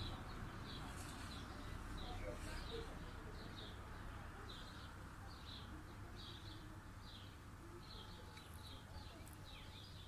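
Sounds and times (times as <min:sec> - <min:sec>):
small songbird chirping: 0:00.0 - 0:10.0.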